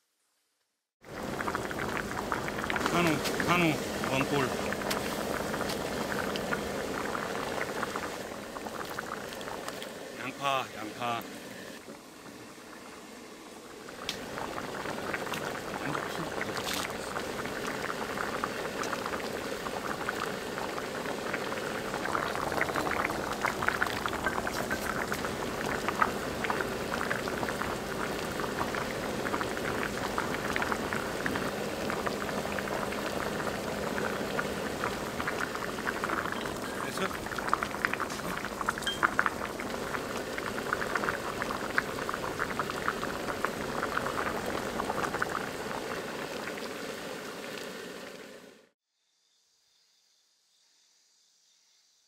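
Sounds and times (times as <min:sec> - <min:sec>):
stew bubbling in a pan: 0:01.0 - 0:11.2, 0:12.0 - 0:48.7.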